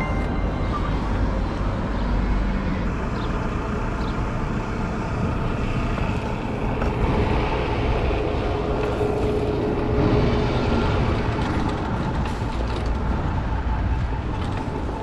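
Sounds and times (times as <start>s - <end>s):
road traffic noise: 0.0s - 15.0s
wind rumble on microphone: 0.0s - 15.0s.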